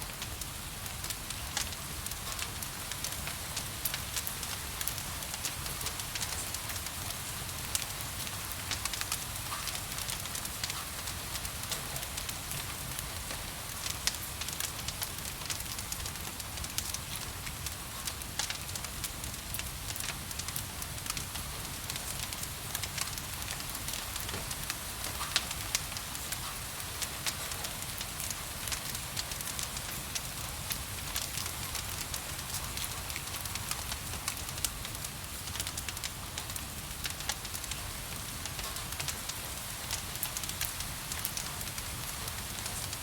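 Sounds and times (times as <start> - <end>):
rain hiss: 0.0 - 43.0
wood fire crackling and popping: 0.0 - 43.0.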